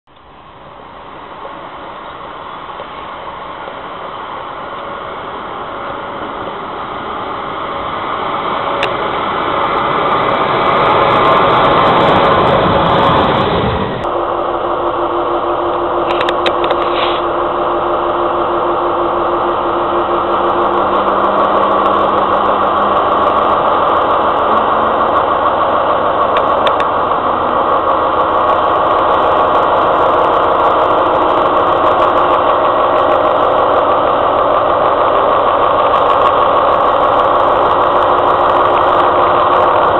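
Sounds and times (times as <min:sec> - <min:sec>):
diesel locomotive engine running: 0:00.0 - 0:39.9
train wheels rumbling on rails: 0:00.1 - 0:39.9.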